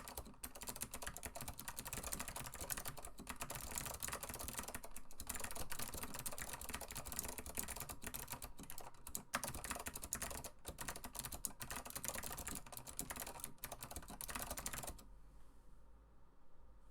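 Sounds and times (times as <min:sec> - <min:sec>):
fast typing on clicky keyboard: 0:00.0 - 0:15.0.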